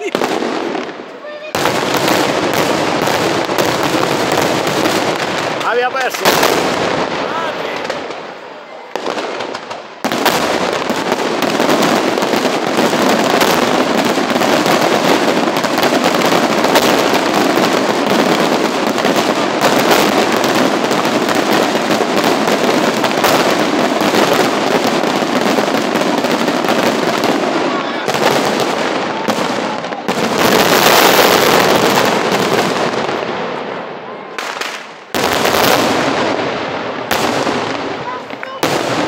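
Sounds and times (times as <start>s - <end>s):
fireworks barrage: 0.0s - 39.0s.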